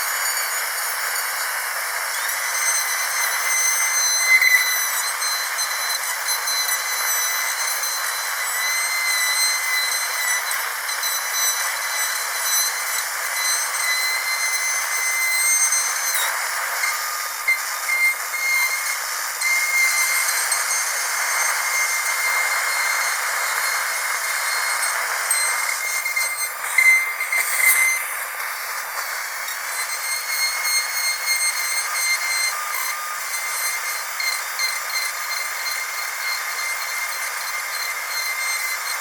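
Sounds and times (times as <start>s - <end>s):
dental drill whining: 0.0s - 39.0s.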